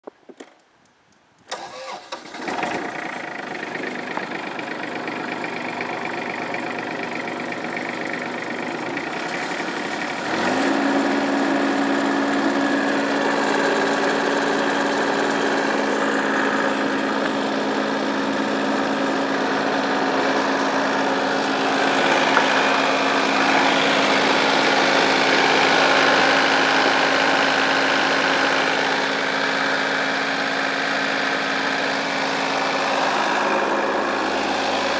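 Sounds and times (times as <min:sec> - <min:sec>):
tractor engine starting and running: 0:00.1 - 0:34.9.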